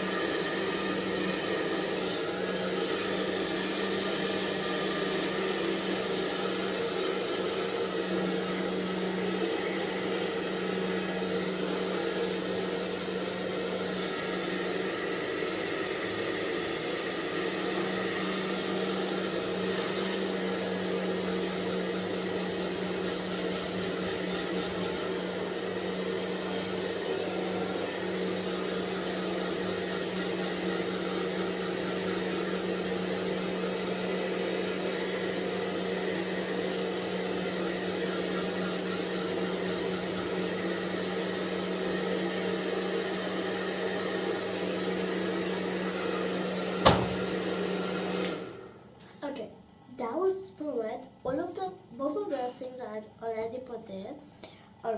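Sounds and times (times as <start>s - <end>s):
hair dryer running: 0.0s - 50.4s.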